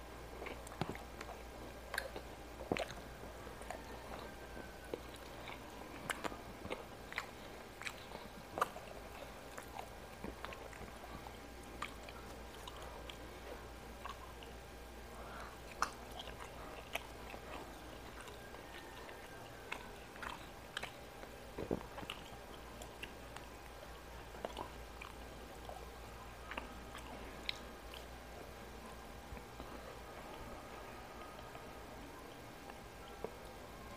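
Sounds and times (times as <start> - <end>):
mouth chewing and biting: 0.3 - 31.7.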